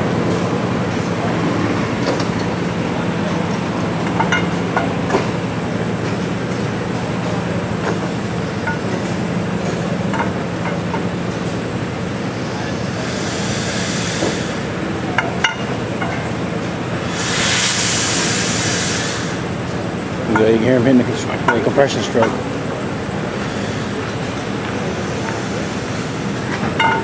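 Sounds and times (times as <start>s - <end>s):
engine hiss: 0.0s - 27.0s
low machinery hum: 0.0s - 27.0s.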